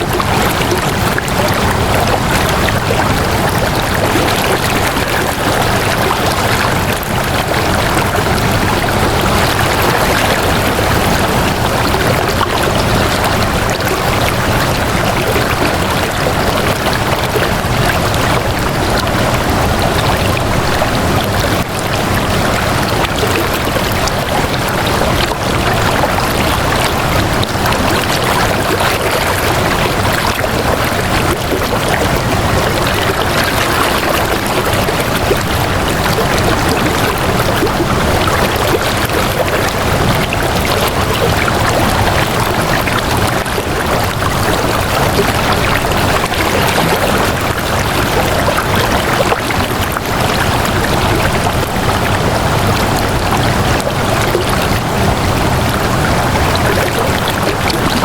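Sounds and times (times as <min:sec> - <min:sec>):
water flowing: 0:00.0 - 0:58.0.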